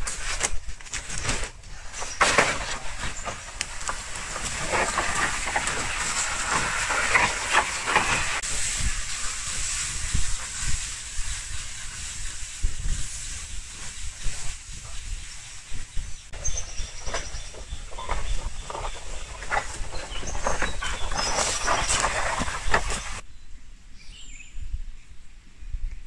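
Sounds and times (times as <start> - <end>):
leaves and branches rustling: 0.0 - 23.3.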